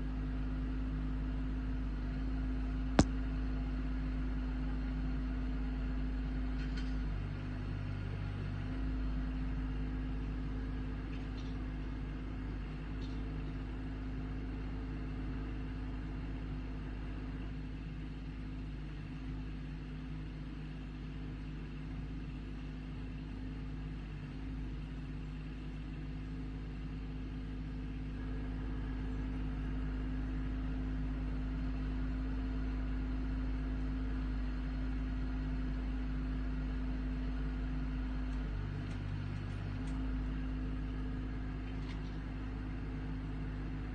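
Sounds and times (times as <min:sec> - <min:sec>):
backhoe engine running: 0:00.0 - 0:43.9.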